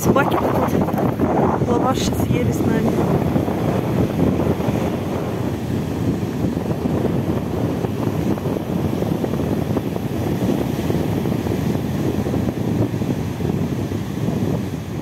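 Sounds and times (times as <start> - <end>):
sea waves breaking: 0.0 - 15.0
wind buffeting microphone: 0.0 - 15.0.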